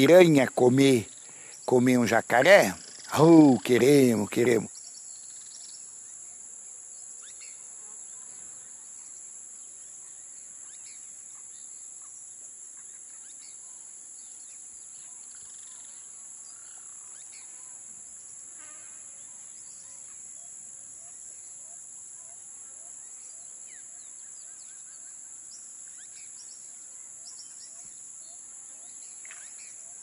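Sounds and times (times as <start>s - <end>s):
faint bird chirps: 0.0s - 18.0s, 19.1s - 30.0s
high-pitched insect chorus: 0.0s - 30.0s.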